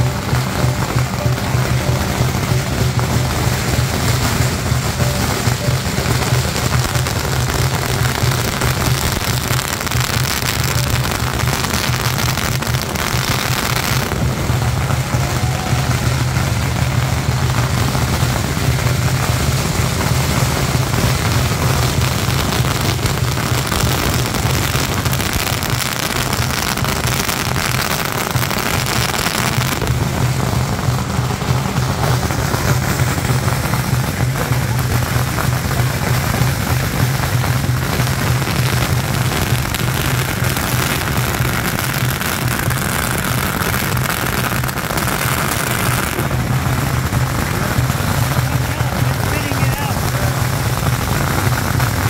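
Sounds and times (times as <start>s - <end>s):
firecrackers crackling: 0.0s - 52.0s
low drone: 0.0s - 52.0s
steady low rumble: 0.0s - 52.0s.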